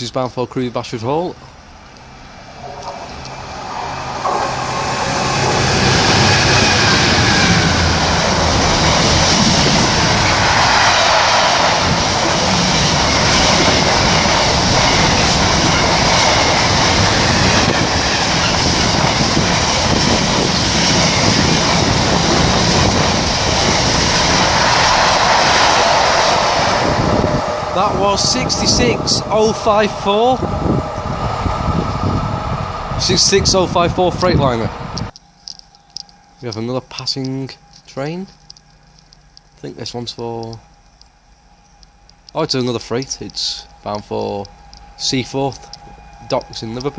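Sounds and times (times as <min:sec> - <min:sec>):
freight train passing: 0:00.9 - 0:46.9.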